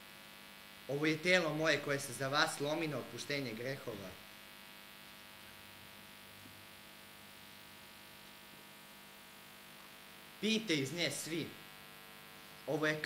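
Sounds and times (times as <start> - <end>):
faint mains hum: 0.0 - 13.0.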